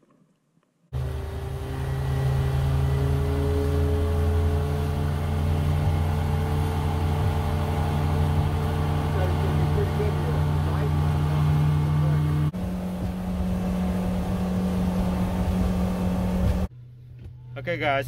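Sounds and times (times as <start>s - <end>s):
churning wake hiss: 1.0s - 16.7s
outboard motor engine hum: 1.0s - 16.8s.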